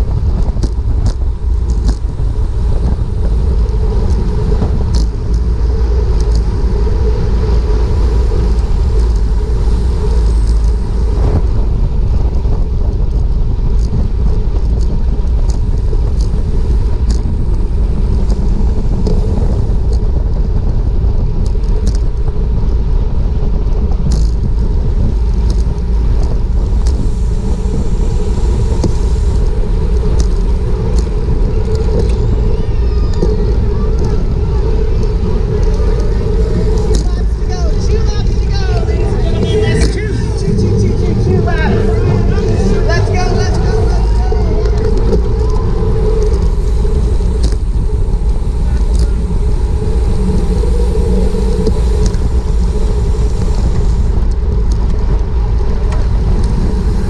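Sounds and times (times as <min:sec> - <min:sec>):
road and tyre rumble: 0:00.0 - 0:57.0
wind buffeting microphone: 0:00.0 - 0:57.0.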